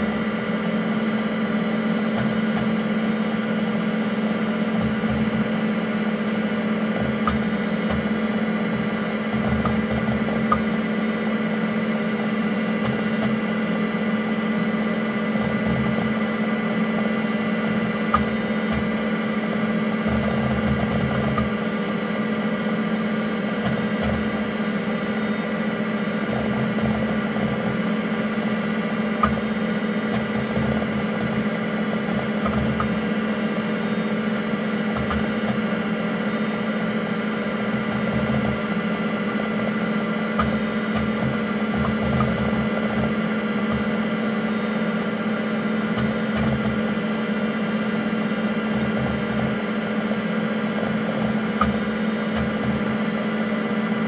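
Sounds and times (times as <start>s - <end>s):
computer fan hum: 0.0s - 54.0s
hard drive seek noise: 0.0s - 54.0s.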